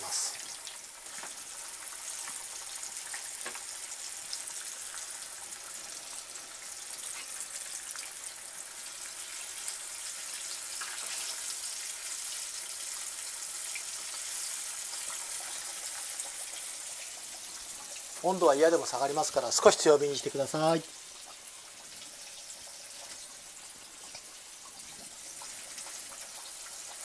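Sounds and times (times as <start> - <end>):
chicken deep-frying in oil: 0.0 - 27.0.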